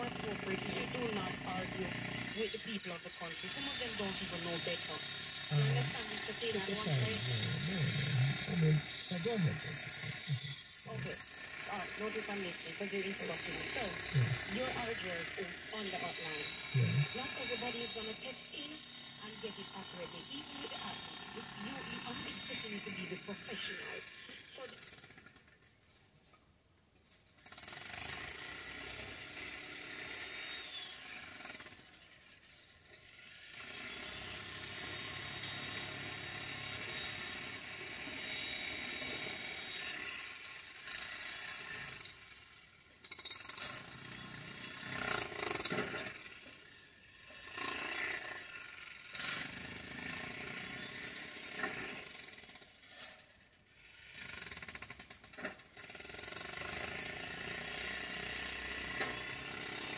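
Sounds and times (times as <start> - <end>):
jackhammer breaking pavement: 0.0 - 2.6, 3.2 - 25.6, 27.4 - 42.4, 43.0 - 53.4, 54.0 - 59.9.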